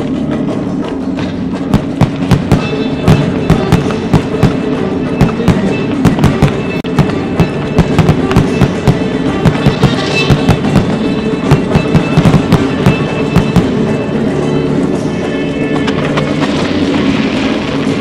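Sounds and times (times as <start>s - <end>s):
loud music: 0.0s - 18.0s.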